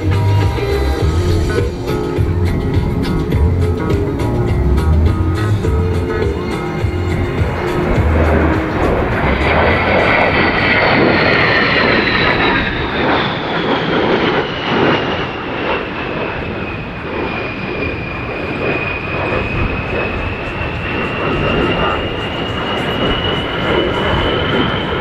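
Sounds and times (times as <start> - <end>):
jet engine roar with fan whine: 0.0 - 25.0.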